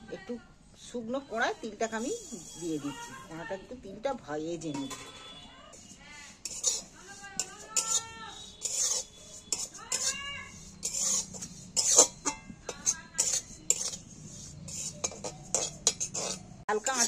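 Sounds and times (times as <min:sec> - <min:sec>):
metal spatula scraping seeds in pan: 0:01.4 - 0:03.5, 0:04.6 - 0:17.0.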